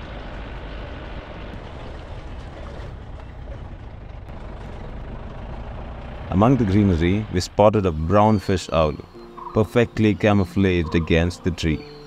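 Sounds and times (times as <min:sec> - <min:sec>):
jeep engine and road rumble: 0:00.0 - 0:12.0.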